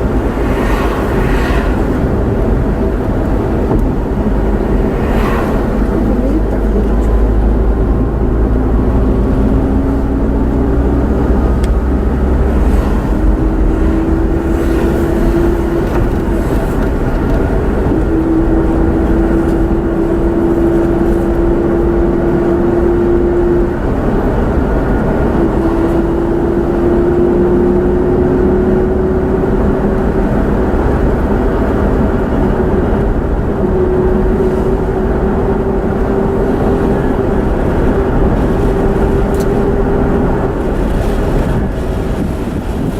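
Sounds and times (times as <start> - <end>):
car engine: 0.0 - 42.9
road rumble: 0.0 - 42.9.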